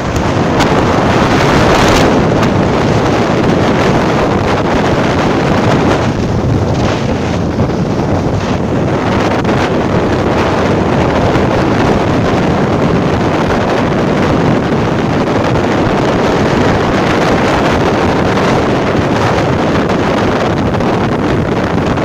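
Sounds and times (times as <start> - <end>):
rush of motorcycle ride: 0.0 - 22.0
wind buffeting microphone: 0.0 - 22.0.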